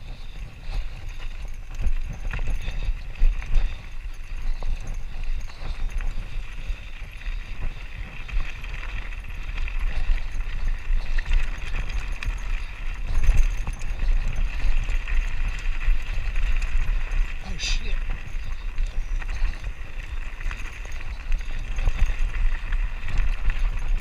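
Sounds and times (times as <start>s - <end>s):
bike rattling: 0.0s - 24.0s
wind rumble on microphone: 0.0s - 24.0s
tyres crunching over stones: 1.1s - 24.0s.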